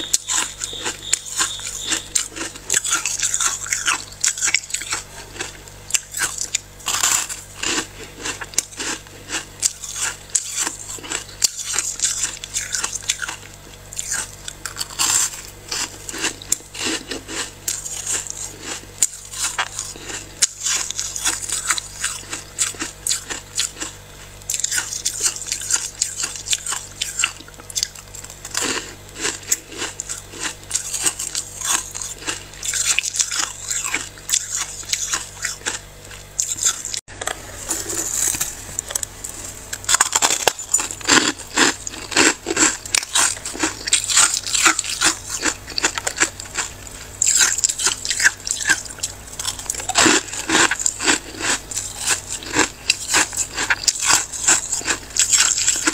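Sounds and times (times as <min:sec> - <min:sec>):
freezer frost crunching under scraping: 0:00.0 - 0:55.9.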